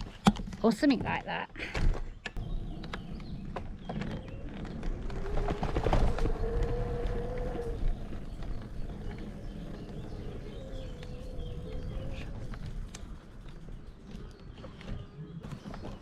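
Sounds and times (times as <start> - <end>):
wind rumble on microphone: 2.4 - 16.0.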